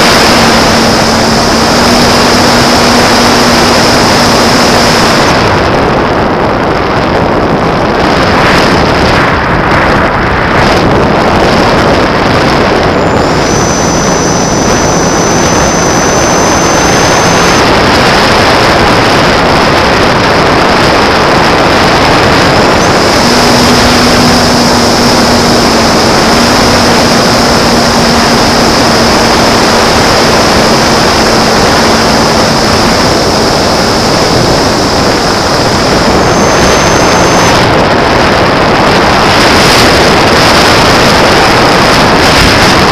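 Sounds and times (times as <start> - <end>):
electric motor whine: 0.0 - 9.4, 10.4 - 42.9
wind rush: 0.0 - 42.9.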